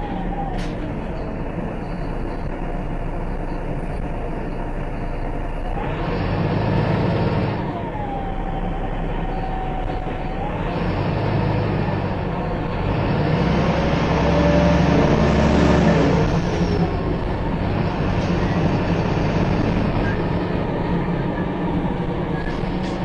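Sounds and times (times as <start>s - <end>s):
bus engine: 0.0s - 23.0s
road noise: 0.0s - 23.0s.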